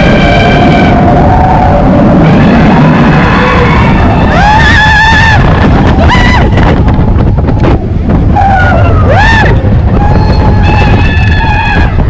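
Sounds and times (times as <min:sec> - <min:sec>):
riders screaming: 0:00.0 - 0:06.6, 0:08.3 - 0:12.0
roller coaster train rumbling: 0:00.0 - 0:12.0
rushing wind: 0:00.0 - 0:12.0.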